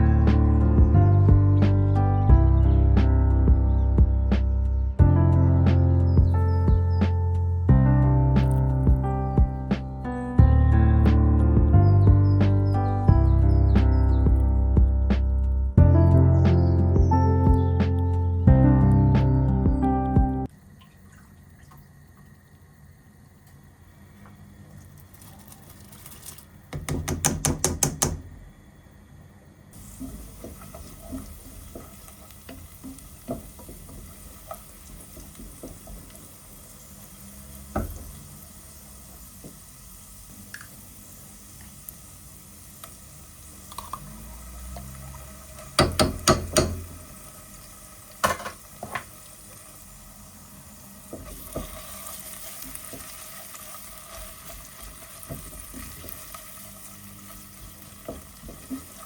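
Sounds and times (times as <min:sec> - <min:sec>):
frying sizzle: 0:00.0 - 0:10.2, 0:11.0 - 0:28.2, 0:29.7 - 0:59.0.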